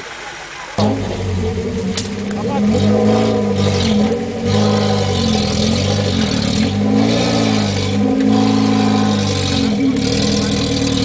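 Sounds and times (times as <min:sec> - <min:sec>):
wheels spinning in mud: 0:00.0 - 0:11.0
off-road truck engine revving: 0:00.8 - 0:11.0.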